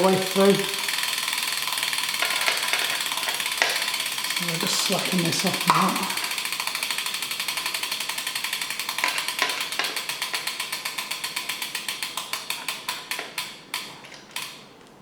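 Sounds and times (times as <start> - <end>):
bicycle freehub ticking: 0.0 - 15.0.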